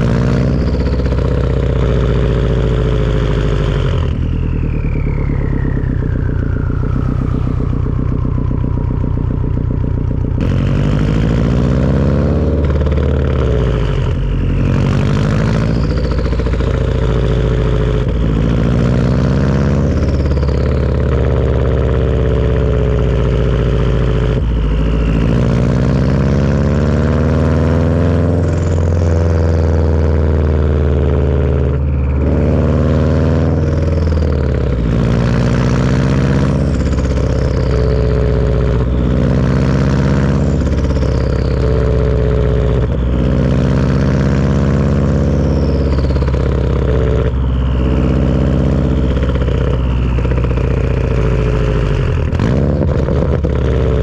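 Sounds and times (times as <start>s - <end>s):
car engine revving: 0.0s - 54.0s
turbo whistling: 0.0s - 54.0s.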